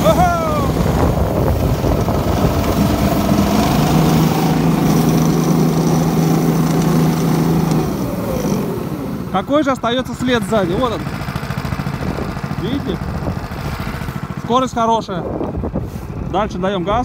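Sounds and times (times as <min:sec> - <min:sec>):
small engine running under throttle: 0:00.0 - 0:16.3.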